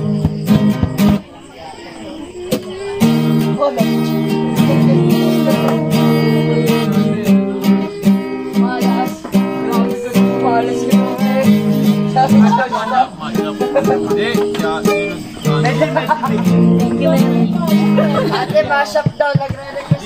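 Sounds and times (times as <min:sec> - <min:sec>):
strummed acoustic guitar music: 0:00.0 - 0:20.0.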